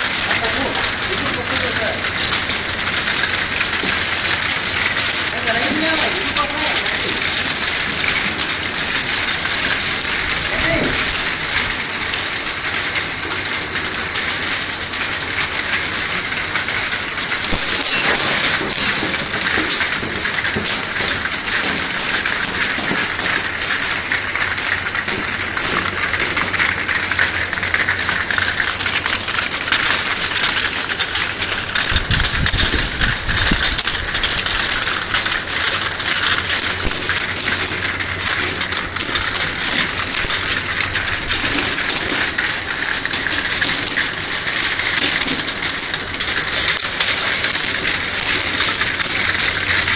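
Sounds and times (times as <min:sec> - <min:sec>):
glass vials clinking: 0:00.0 - 0:49.9.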